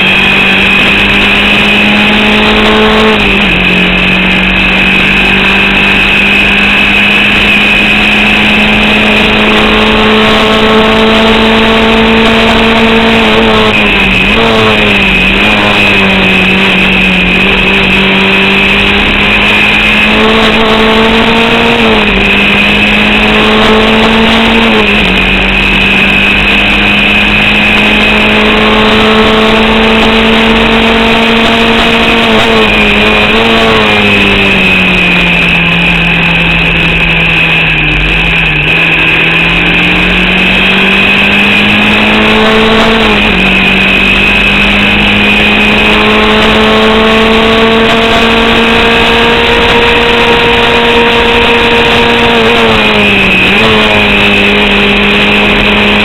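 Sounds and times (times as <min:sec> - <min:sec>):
high whine: 0:00.0 - 0:56.0
misfiring race car engine: 0:00.0 - 0:56.0.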